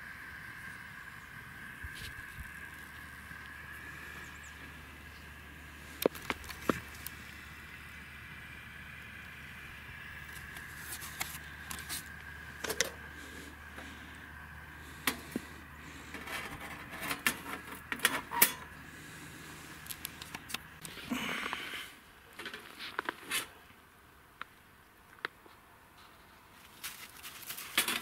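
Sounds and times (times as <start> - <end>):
steady low hum: 0.0 - 26.6.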